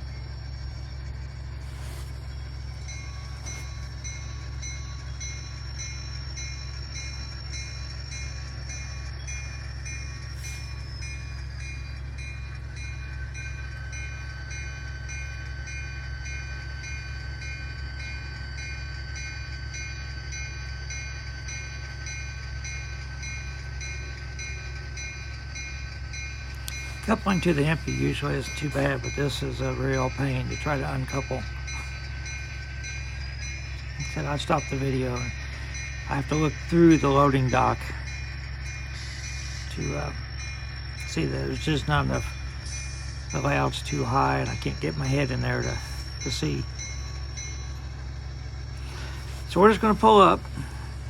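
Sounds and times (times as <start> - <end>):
model locomotive engine rumble: 0.0 - 51.0
rapid ringing bell: 0.0 - 51.0.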